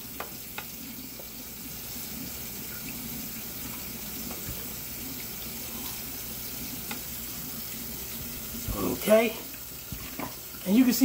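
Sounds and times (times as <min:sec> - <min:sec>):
water draining from sink: 0:00.0 - 0:11.0.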